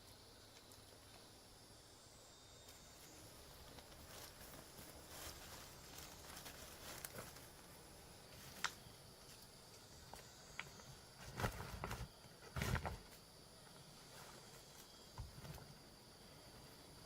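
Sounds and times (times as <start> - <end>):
rustling in soil and leaves: 2.5 - 17.0.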